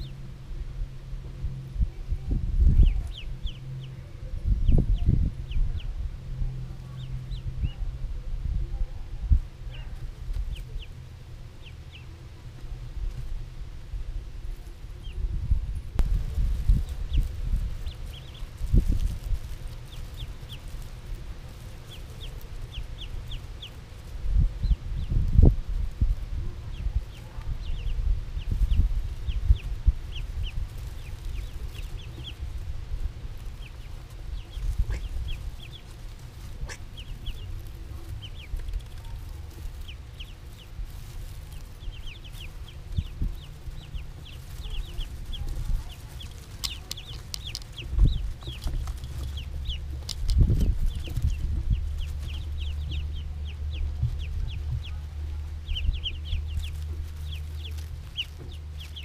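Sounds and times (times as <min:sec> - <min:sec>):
ducklings peeping: 0:00.0 - 0:59.0
low rumble: 0:00.0 - 0:59.0.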